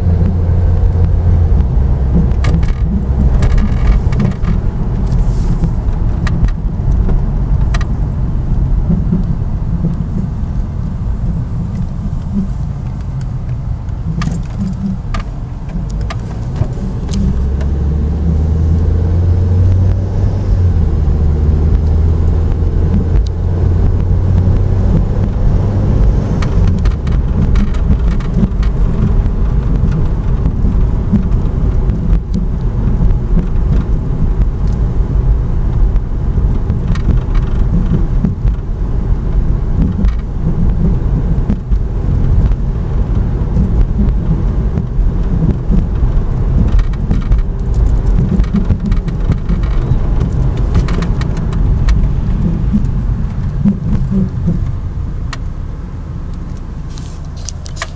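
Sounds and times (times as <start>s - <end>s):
car road rumble: 0.0s - 57.9s.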